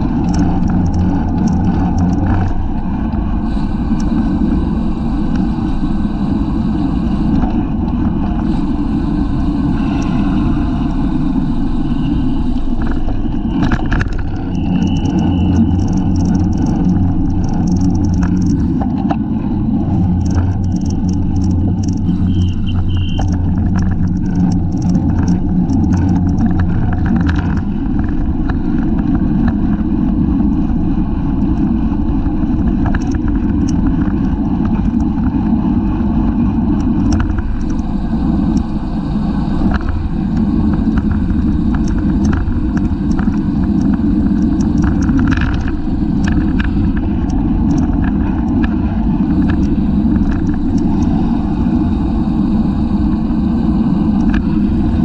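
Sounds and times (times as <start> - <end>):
small clicks and rattles: 0.0 - 4.2, 12.4 - 51.6, 53.4 - 55.0
road rumble: 0.0 - 55.0
wind noise: 0.0 - 55.0.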